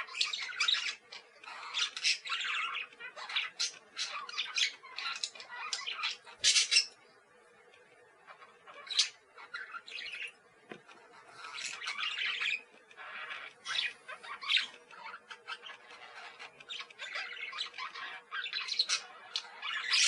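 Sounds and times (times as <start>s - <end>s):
parakeets chattering and squawking: 0.0s - 20.0s.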